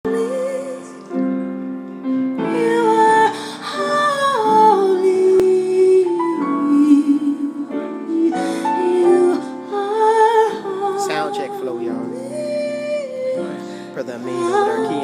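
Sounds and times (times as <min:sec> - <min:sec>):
gospel-like harmony singing: 0:00.0 - 0:15.0.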